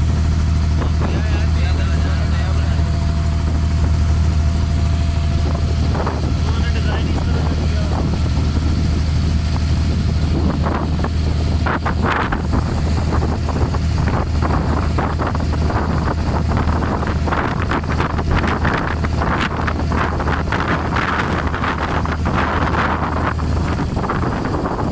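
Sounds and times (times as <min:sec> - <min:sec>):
boat diesel engine drone: 0:00.0 - 0:24.9
wind on microphone: 0:00.0 - 0:24.9.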